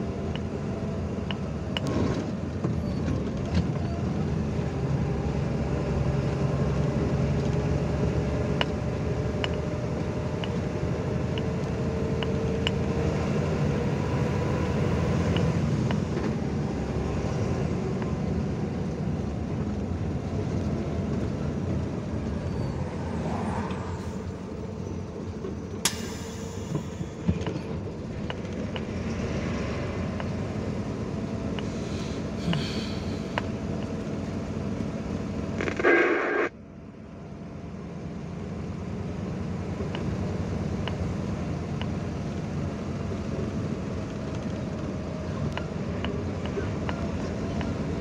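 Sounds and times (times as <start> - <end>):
road rumble: 0.0 - 48.0
truck engine: 0.0 - 48.0.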